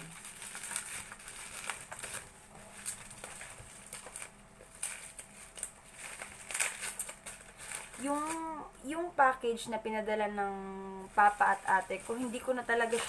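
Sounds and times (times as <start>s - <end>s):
plastic wrapping crinkling: 0.0s - 9.4s, 11.0s - 13.0s.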